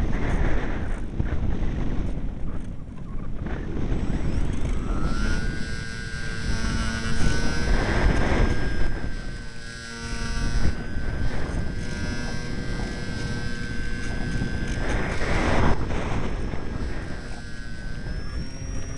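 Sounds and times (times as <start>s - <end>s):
wind buffeting microphone: 0.0s - 18.9s
high-pitched whine: 2.5s - 18.9s.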